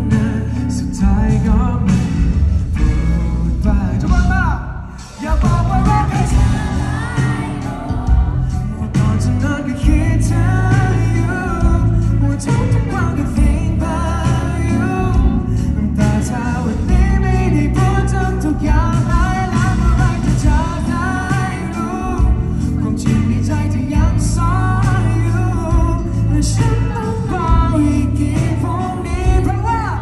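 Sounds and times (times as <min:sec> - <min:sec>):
live band playing: 0:00.0 - 0:30.0
man singing pop ballad: 0:00.0 - 0:30.0.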